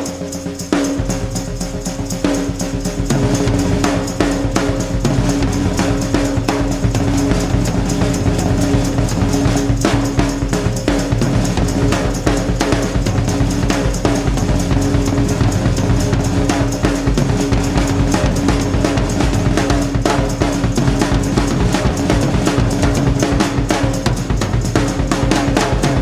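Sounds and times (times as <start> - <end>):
fast drum beat: 0.0 - 26.0.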